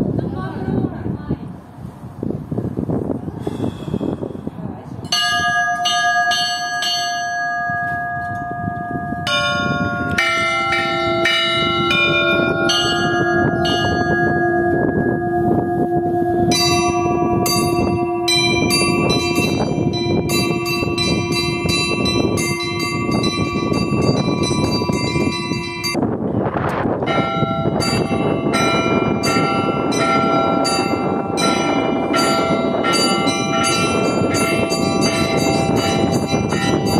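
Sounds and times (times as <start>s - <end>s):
deep bell humming: 5.0s - 26.0s, 27.0s - 36.9s
small high bells ringing: 5.1s - 26.0s, 27.1s - 36.9s.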